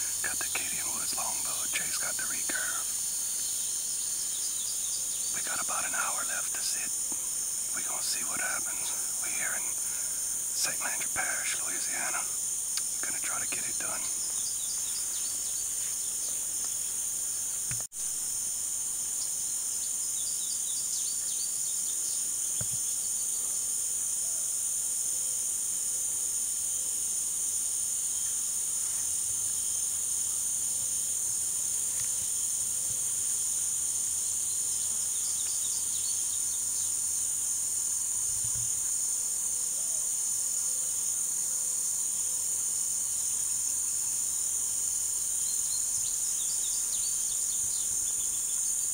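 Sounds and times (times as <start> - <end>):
faint insect chirps: 0.0 - 48.9
insect chorus drone: 0.0 - 48.9.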